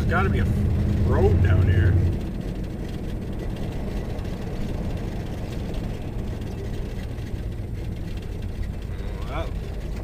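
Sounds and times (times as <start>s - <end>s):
engine low drone: 0.0s - 10.0s
tyre and road rumble: 0.0s - 10.0s.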